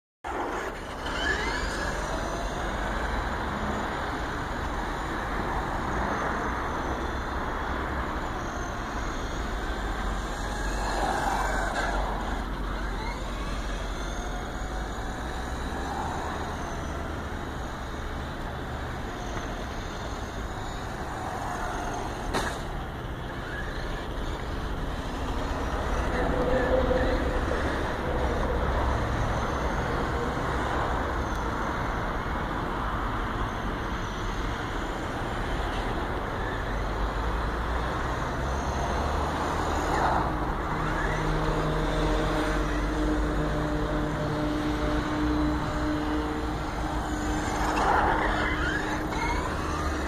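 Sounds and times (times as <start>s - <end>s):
toy car motor whine: 0.3s - 50.0s.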